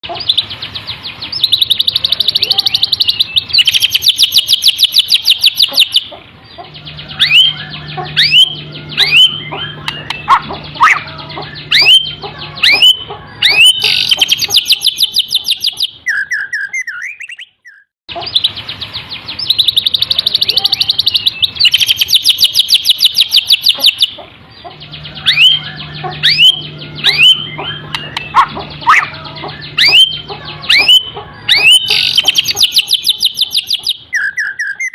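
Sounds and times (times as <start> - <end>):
songbird trills and whistles: 0.0 - 34.9.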